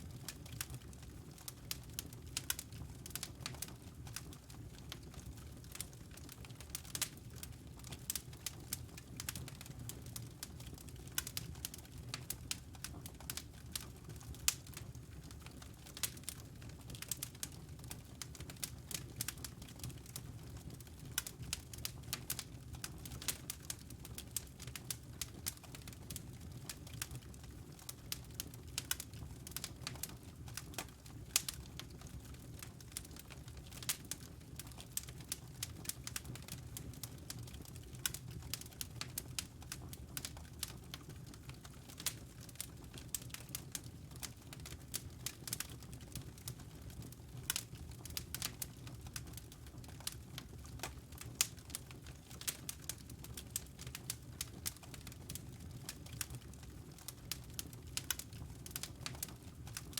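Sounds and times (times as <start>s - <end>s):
fire crackling and popping: 0.0s - 59.9s
low fire rumble: 0.1s - 59.9s.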